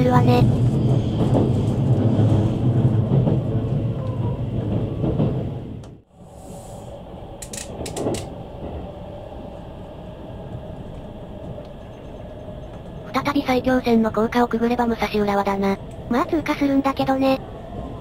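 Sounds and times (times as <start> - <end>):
train rumble inside cabin: 0.0 - 18.0.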